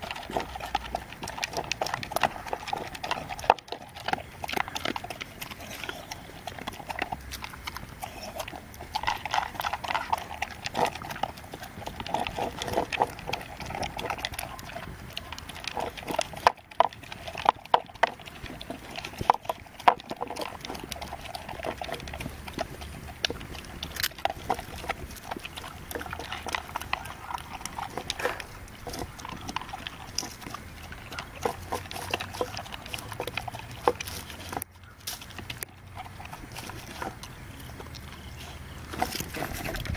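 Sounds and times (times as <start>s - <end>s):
dog crunching food: 0.0s - 39.9s.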